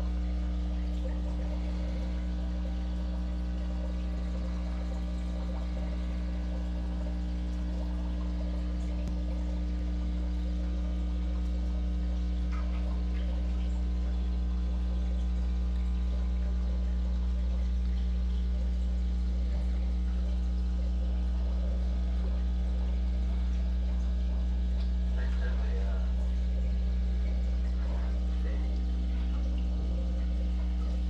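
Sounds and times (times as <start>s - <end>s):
air bubbles bubbling underwater: 0.0s - 31.0s
constant low hum: 0.0s - 31.0s.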